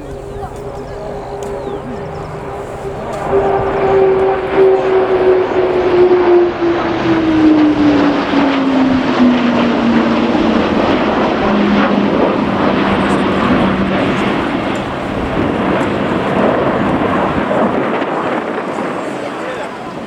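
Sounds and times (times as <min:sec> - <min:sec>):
propeller hum falling in pitch: 0:00.0 - 0:20.0
rushing jet engine noise: 0:00.0 - 0:20.0.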